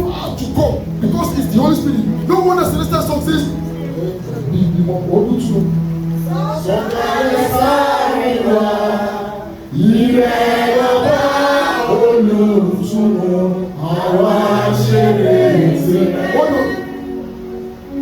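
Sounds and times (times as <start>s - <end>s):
voices singing a hymn: 0.0s - 18.0s.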